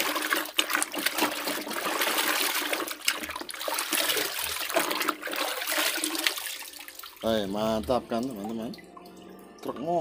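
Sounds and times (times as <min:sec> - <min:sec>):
water splashing in a basin: 0:00.0 - 0:10.0.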